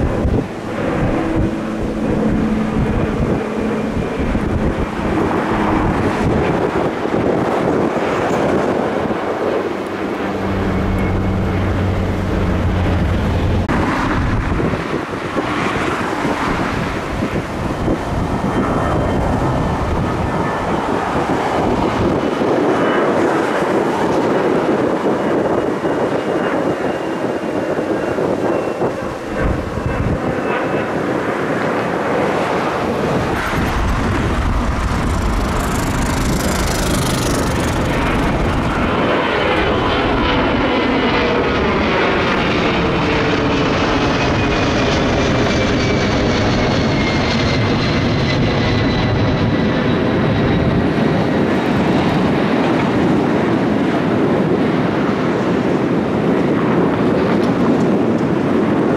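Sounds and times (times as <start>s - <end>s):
high engine whine: 0.0s - 55.2s
jet engines roaring overhead: 0.0s - 58.9s.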